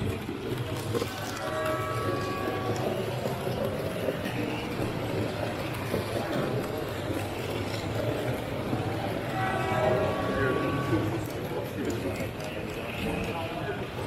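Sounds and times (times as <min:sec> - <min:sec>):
indistinct crowd chatter: 0:00.0 - 0:14.0.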